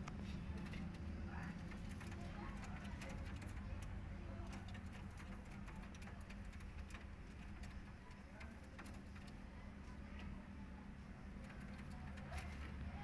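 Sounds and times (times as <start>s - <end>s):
faint ticks and clicks: 0.0s - 10.4s, 11.3s - 13.0s.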